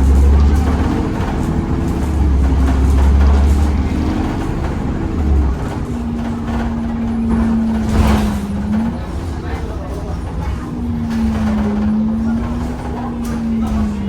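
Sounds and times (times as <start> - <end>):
bus engine drone: 0.0 - 14.0
bus engine whine: 0.0 - 14.0.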